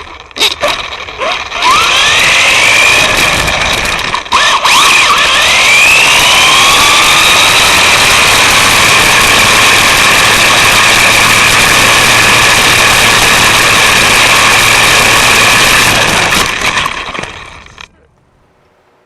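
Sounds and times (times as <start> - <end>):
electric motor and gears whining: 0.0 - 18.4
rushing noise: 0.0 - 18.4.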